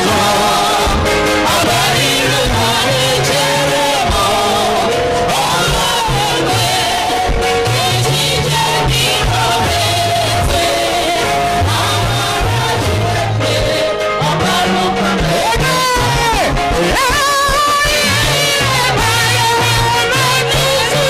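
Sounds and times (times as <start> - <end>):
bass line: 0.0 - 21.0
keyboard: 0.0 - 21.0
voices singing held notes: 0.0 - 21.0.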